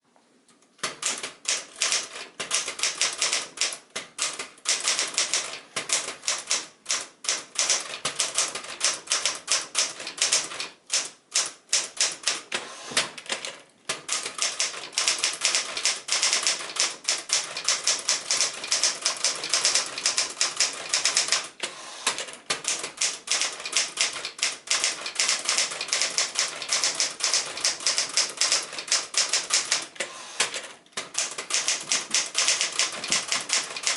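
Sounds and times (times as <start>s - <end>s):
manual typewriter typing: 0.8s - 12.6s, 13.2s - 33.9s.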